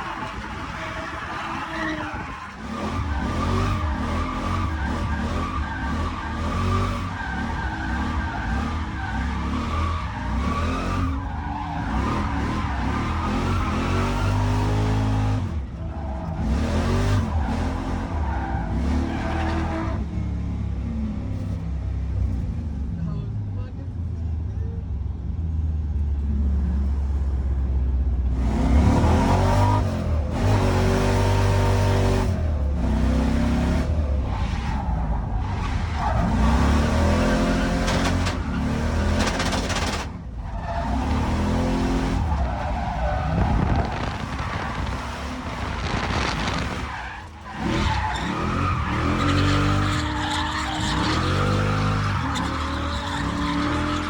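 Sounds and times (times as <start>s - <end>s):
car engine revving: 0.0s - 20.2s, 28.3s - 54.0s.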